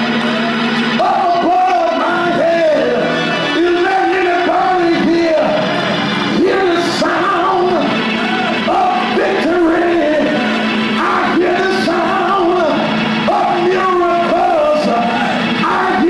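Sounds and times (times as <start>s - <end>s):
church music: 0.0s - 16.0s
person singing: 0.0s - 16.0s
shouting: 0.2s - 16.0s.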